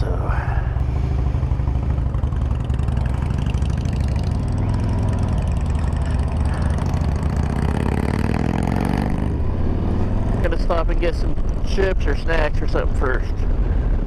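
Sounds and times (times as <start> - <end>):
motorcycle engine running: 0.0 - 14.0
road noise: 0.0 - 14.0.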